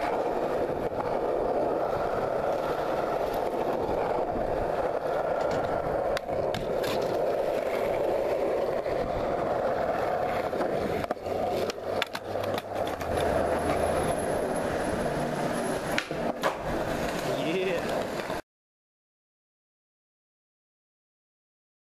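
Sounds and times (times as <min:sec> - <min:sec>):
skateboard wheels rolling on concrete: 0:00.0 - 0:18.4.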